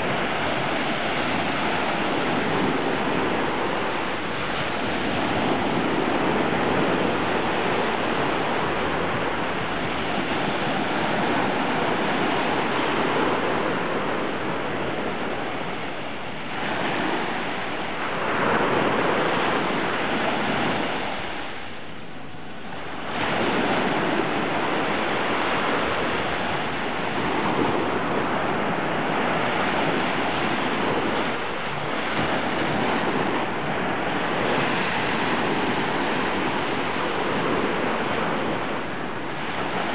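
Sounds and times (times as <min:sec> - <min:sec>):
waves breaking on sandy shore: 0:00.0 - 0:39.9.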